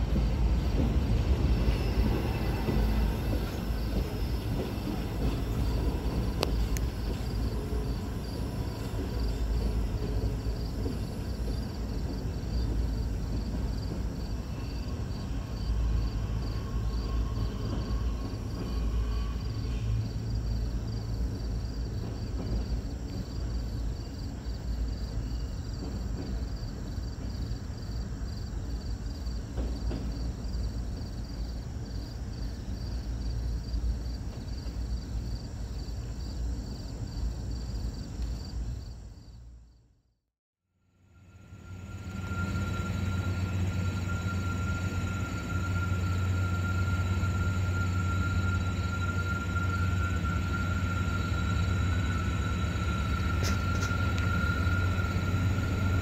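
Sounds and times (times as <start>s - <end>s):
freight train rumbling: 0.0s - 39.6s, 41.0s - 56.0s
insect chirping: 0.4s - 39.8s, 41.0s - 56.0s.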